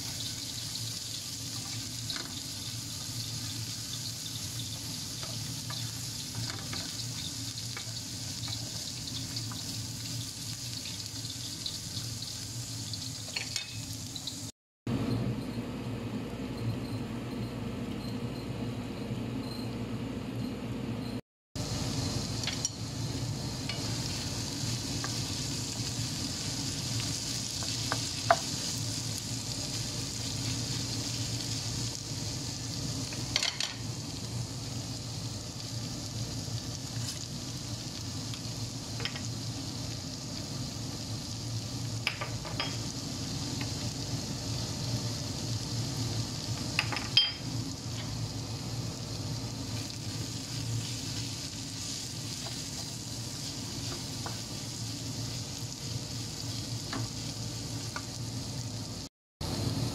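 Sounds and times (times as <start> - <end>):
vegetables sizzling in a frying pan: 0.0 - 14.5, 21.6 - 59.9.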